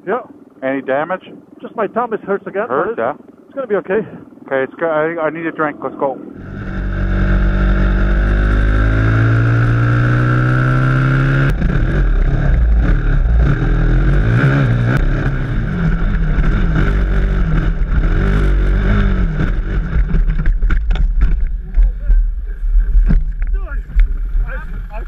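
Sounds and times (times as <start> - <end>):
dirt bike engine revving: 1.6 - 25.0.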